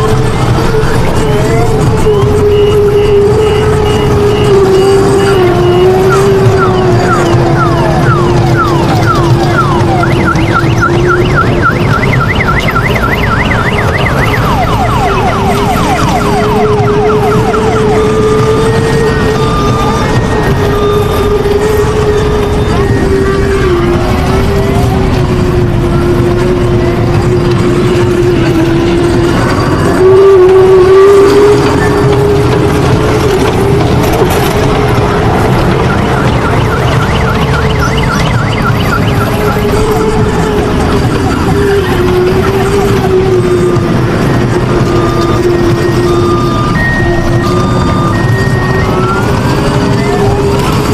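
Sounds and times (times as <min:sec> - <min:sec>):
electronic toy siren: 0:00.0 - 0:50.9
kiddie train ride rumbling: 0:00.0 - 0:50.9.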